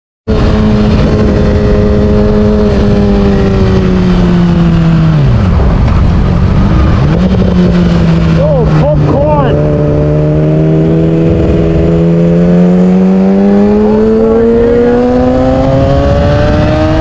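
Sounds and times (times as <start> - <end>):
motorcycle engine at high revs: 0.3 - 17.0
wind noise on microphone: 0.3 - 17.0.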